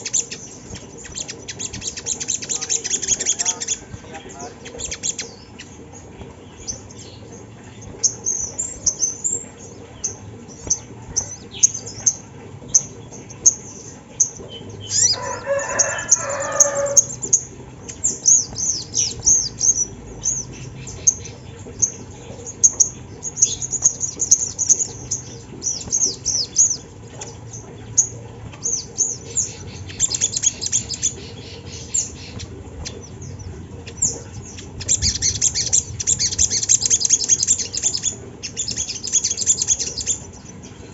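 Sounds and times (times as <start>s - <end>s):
bird high chirps: 0.0s - 40.7s.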